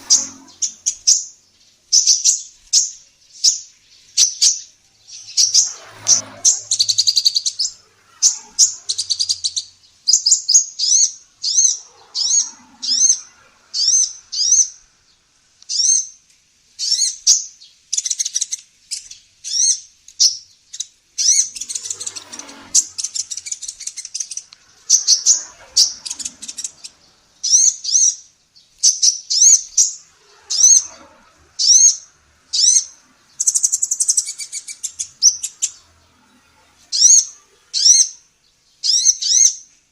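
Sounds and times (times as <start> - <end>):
sunbird singing high chirps: 0.0 - 39.8.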